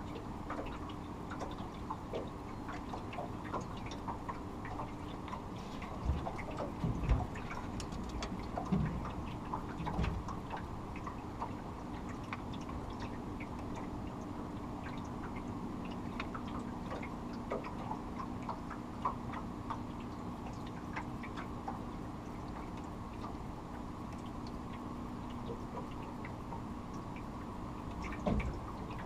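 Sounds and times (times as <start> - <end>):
water lapping against hull: 0.0 - 29.0.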